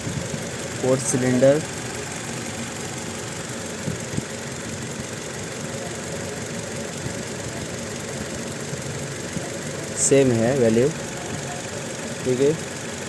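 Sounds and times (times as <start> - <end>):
car engine idling with misfire: 0.0 - 13.0.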